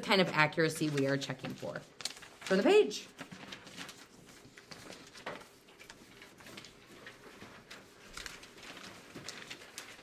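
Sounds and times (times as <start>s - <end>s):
paper rustling: 0.0s - 10.0s
page turning: 0.7s - 10.0s.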